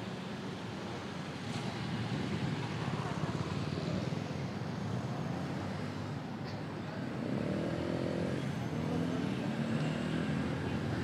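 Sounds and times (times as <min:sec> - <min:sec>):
hum of road traffic: 0:00.0 - 0:11.0.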